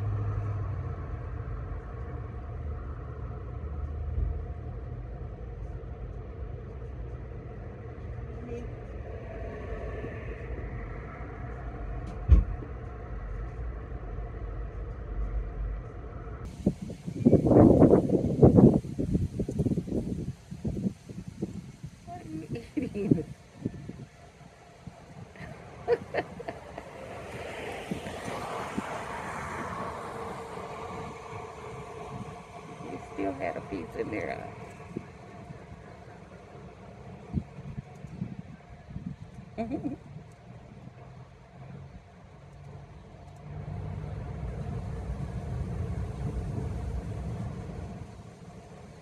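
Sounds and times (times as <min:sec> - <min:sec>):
low rumble: 0:00.0 - 0:49.0
vehicle passing: 0:00.0 - 0:49.0.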